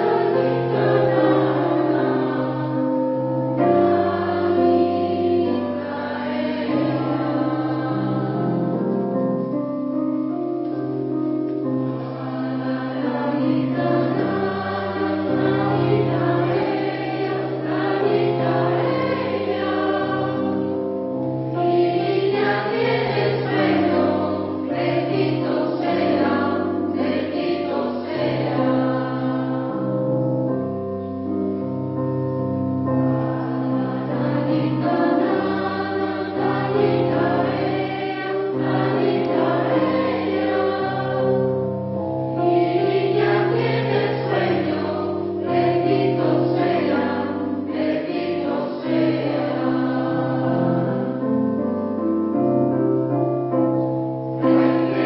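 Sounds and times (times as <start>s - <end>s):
mixed choir singing: 0.0s - 8.9s, 11.9s - 30.2s, 33.2s - 51.6s, 54.4s - 55.0s.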